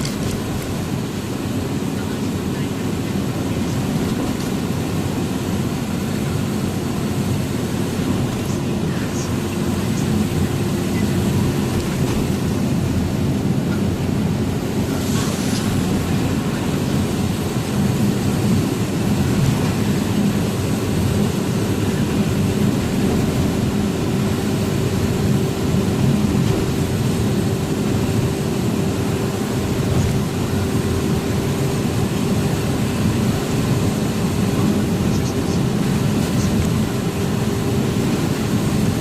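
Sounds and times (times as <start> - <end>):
road noise: 0.0 - 39.0
truck engine drone: 0.0 - 39.0.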